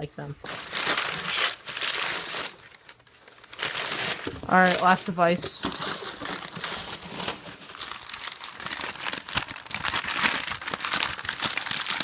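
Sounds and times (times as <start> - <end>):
packing wrap crinkling: 0.3 - 12.0.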